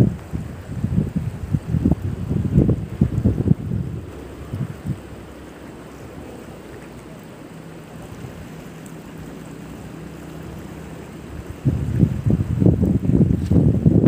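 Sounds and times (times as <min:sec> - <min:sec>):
river rushing: 0:00.0 - 0:14.0
wind gusts on microphone: 0:00.0 - 0:14.0.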